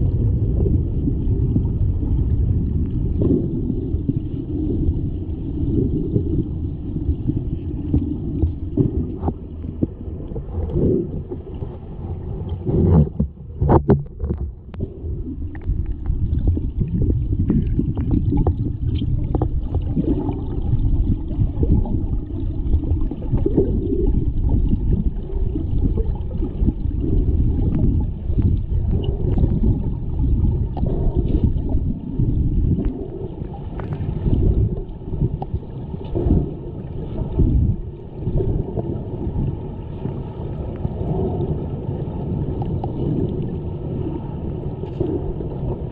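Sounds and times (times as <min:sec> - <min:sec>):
underwater rumble and gurgle: 0:00.0 - 0:45.9.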